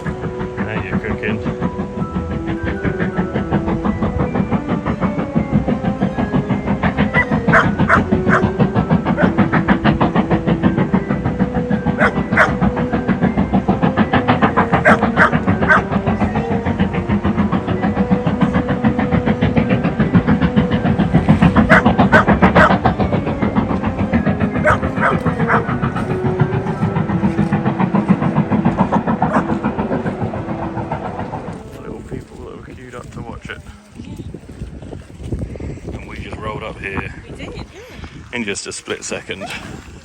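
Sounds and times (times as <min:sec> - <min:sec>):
steam hiss: 0:00.0 - 0:32.7
steam locomotive exhaust chuffs: 0:00.0 - 0:40.0.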